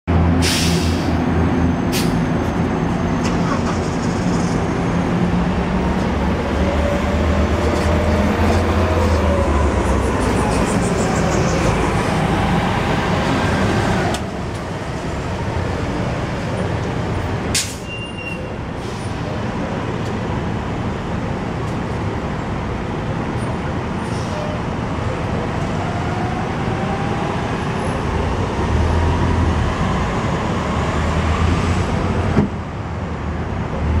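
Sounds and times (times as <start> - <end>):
bus engine pulling away: 0.1 - 34.0
road traffic rumble: 0.1 - 34.0.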